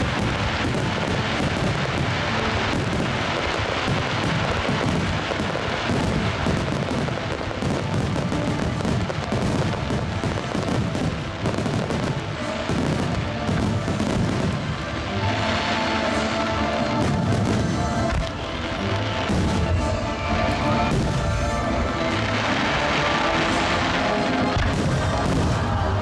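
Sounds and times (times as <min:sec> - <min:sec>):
fireworks booming and crackling: 0:00.0 - 0:26.0
music over loudspeakers: 0:00.0 - 0:26.0.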